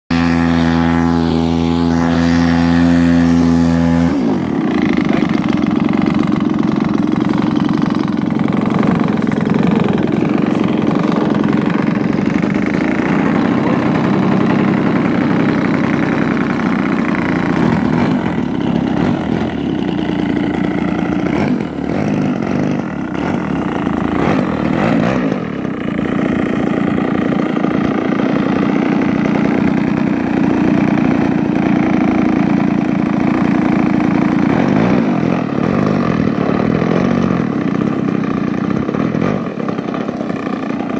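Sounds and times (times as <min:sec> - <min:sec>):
model plane engine idling: 0:00.1 - 0:40.9.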